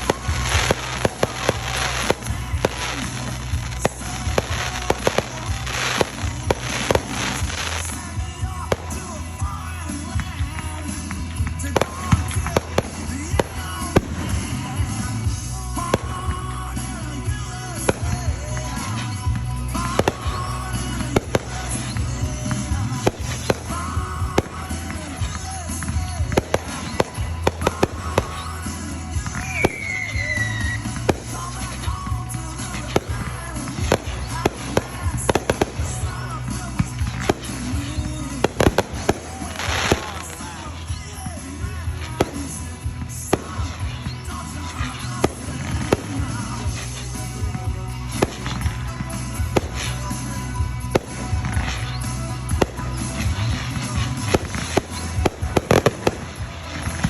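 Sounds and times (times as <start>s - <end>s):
fireworks bangs: 0.0s - 57.0s
fireworks crackling: 0.0s - 57.0s
music playing: 0.0s - 57.0s.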